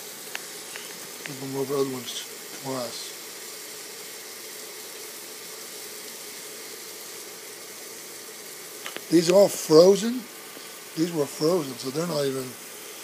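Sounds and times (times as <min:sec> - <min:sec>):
burger patties sizzling: 0:00.0 - 0:13.0.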